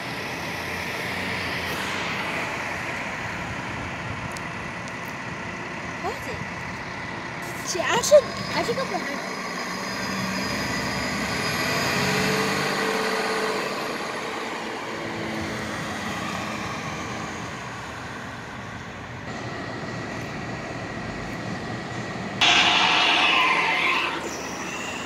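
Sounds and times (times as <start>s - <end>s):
bus engine driving off: 0.0s - 25.0s.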